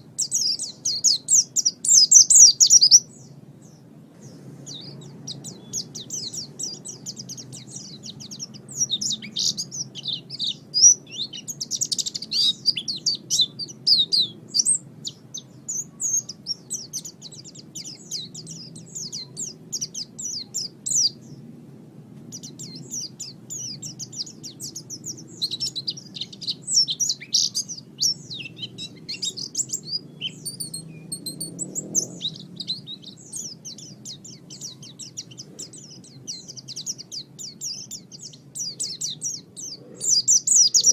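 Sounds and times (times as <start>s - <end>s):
bird twittering: 0.0s - 21.4s, 22.3s - 40.9s.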